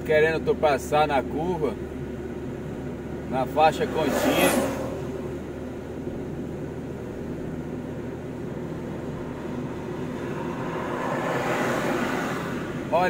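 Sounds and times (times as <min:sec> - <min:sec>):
car road and engine drone: 0:00.0 - 0:13.0.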